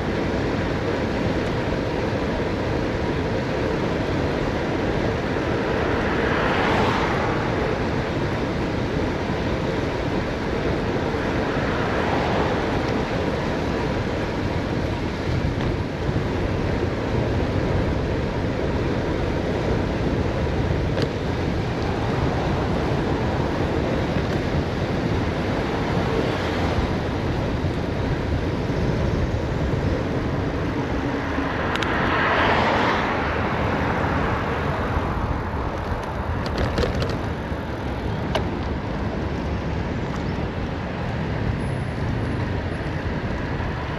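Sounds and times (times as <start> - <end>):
bicycle road noise: 0.0 - 43.9.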